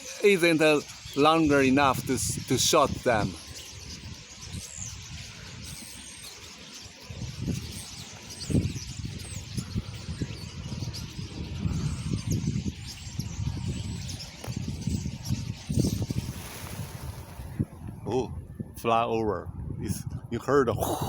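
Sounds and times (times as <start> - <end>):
flock of birds chirping: 0.0 - 21.0
wind gusts on microphone: 0.0 - 21.0.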